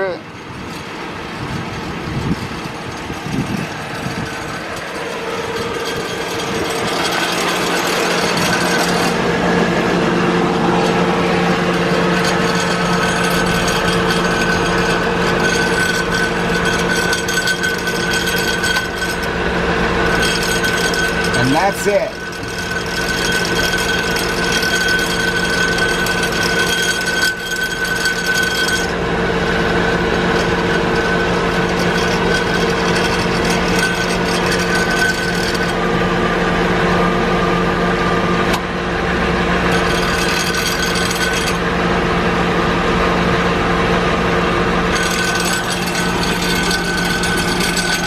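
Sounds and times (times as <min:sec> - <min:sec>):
steady whining tones: 0:00.0 - 0:48.0
van engine droning: 0:00.0 - 0:48.0.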